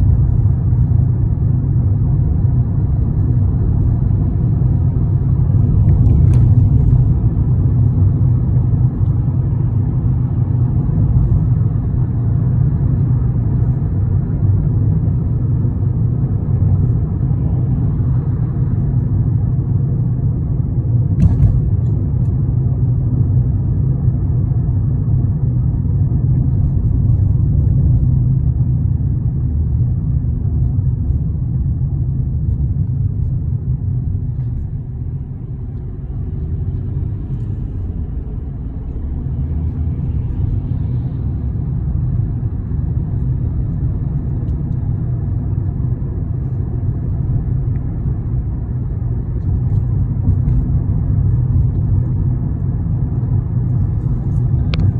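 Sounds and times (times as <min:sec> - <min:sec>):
road vehicle rumble: 0:00.0 - 0:54.9.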